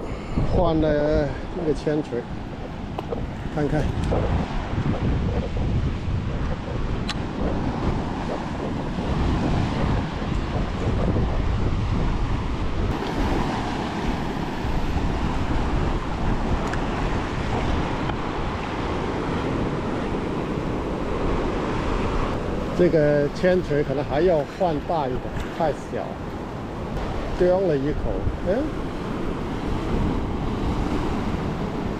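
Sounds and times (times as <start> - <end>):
ocean surf breaking on rocks: 0.0 - 31.9
wind buffeting microphone: 0.0 - 31.9.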